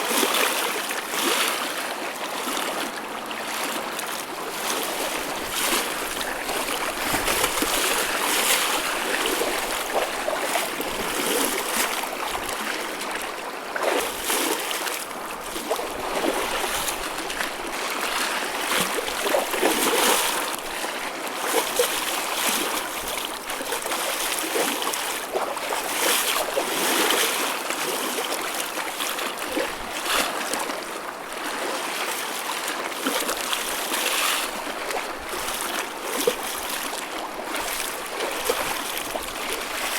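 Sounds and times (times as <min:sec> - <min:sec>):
ocean waves splashing: 0:03.4 - 0:39.9.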